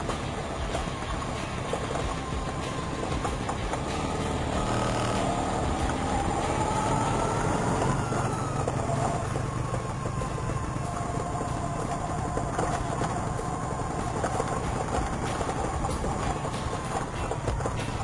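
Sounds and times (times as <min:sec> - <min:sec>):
scooter engine rumble: 0:00.0 - 0:18.0
siren-like whine: 0:00.0 - 0:18.0.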